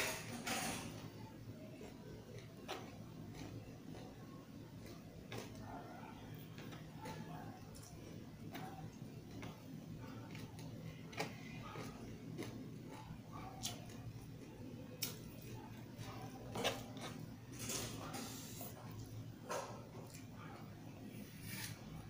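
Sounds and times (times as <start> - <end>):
person chewing: 1.5 - 19.2, 19.8 - 20.7.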